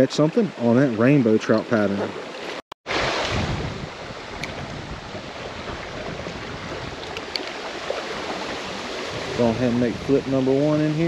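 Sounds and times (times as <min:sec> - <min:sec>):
creek water rushing over rocks: 0:00.1 - 0:11.0.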